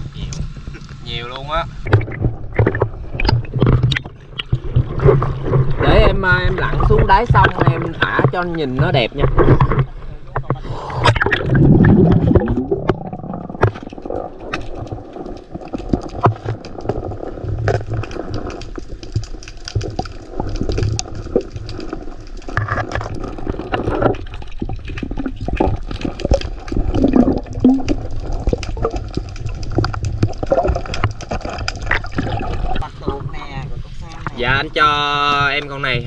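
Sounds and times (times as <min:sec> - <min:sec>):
water splashing and churning: 0:00.0 - 0:36.0.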